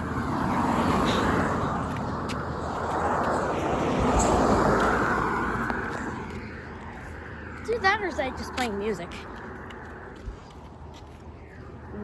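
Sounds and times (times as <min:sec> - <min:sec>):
vehicles passing on road: 0:00.0 - 0:12.0.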